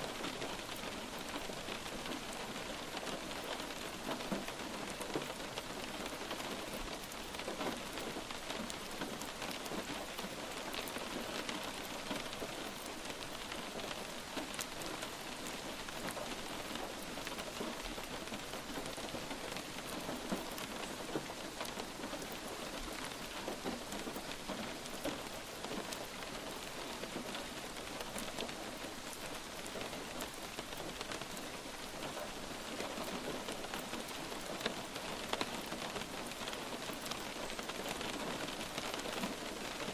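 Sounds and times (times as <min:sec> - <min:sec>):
light rain hissing: 0:00.0 - 0:39.9
raindrops ticking: 0:00.0 - 0:39.9.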